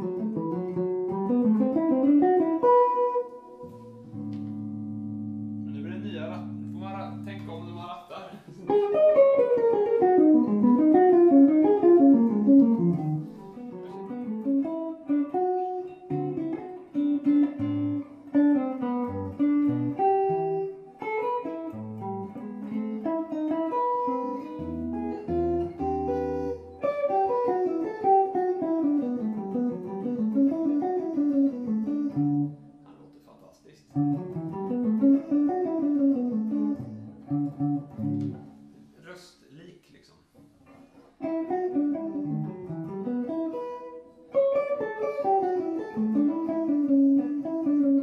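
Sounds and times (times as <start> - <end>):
electric guitar through amplifier: 0.0 - 7.9, 8.5 - 33.2, 33.9 - 38.8, 40.6 - 48.0.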